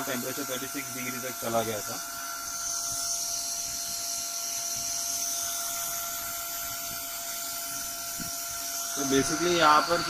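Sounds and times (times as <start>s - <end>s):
small cooling fan whine: 0.0s - 10.0s.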